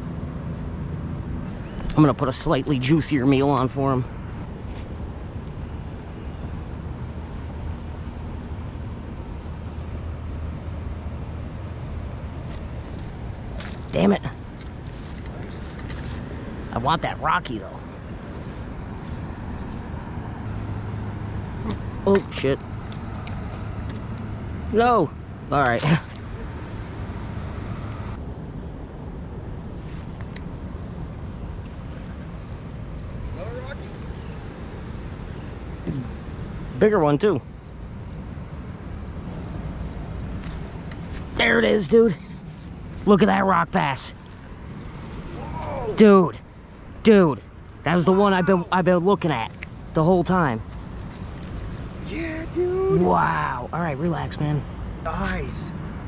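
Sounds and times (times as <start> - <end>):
insects chirping: 0.0 - 56.0
low outdoor rumble: 0.0 - 56.0.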